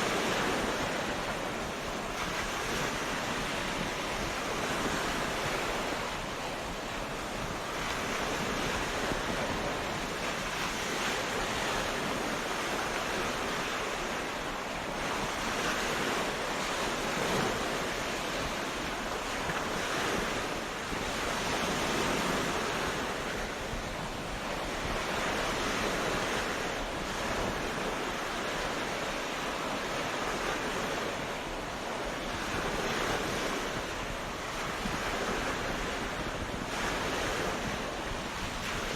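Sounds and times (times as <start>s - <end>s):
waves breaking on a beach: 0.0s - 38.9s.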